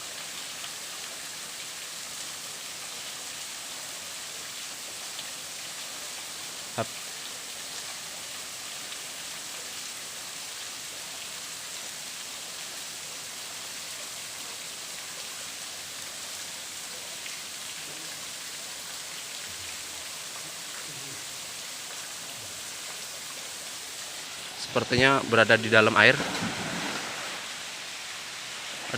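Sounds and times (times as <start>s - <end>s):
water falling and splashing: 0.0s - 28.9s.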